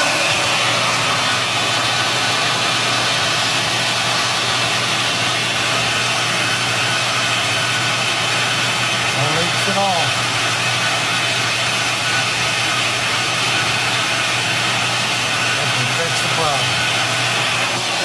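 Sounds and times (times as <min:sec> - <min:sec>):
washer filling with water: 0:00.0 - 0:18.0.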